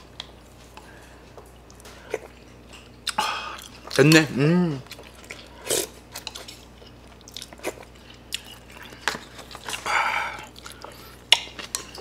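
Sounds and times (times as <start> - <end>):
person chewing: 0.2 - 12.0.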